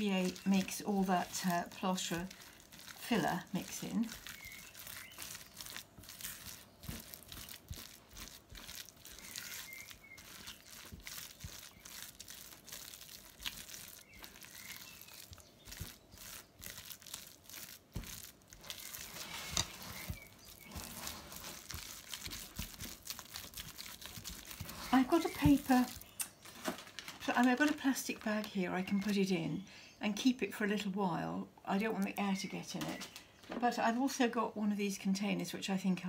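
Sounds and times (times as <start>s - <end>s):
wet pulp rustling and scraping: 0.0s - 29.3s, 31.8s - 33.7s.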